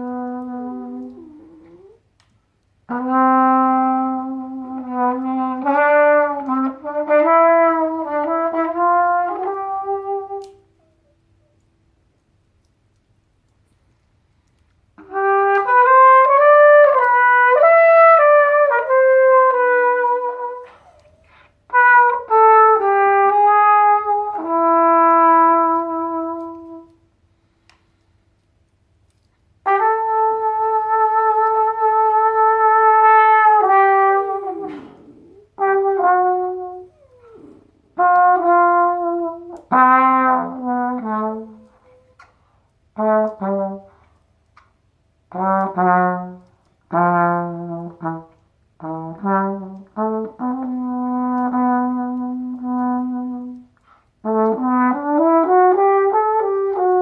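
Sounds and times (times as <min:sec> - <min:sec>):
trumpet playing slow blues: 0:00.0 - 0:11.6, 0:14.9 - 0:27.2, 0:29.6 - 0:44.5, 0:45.2 - 0:57.0.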